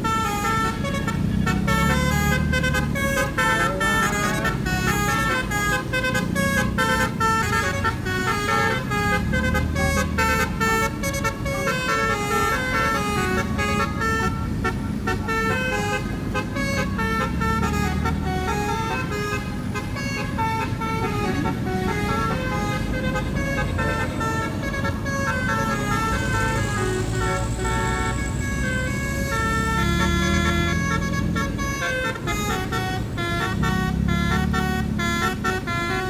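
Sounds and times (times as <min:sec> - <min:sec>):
multi-tone horn playing a tune: 0:00.0 - 0:36.0.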